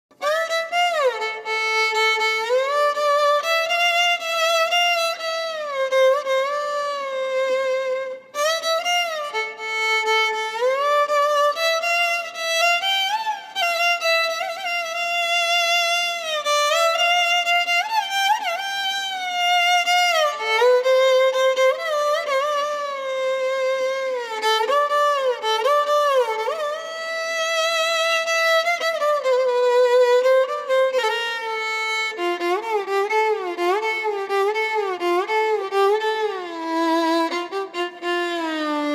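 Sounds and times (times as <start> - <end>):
bowed violin melody: 0.1 - 38.9.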